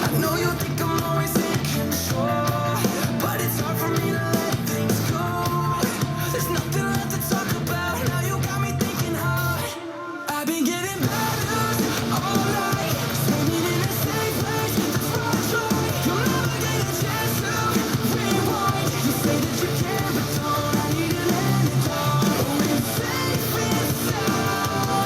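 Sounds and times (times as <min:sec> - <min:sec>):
metalcore music through small speaker: 0:00.0 - 0:25.0.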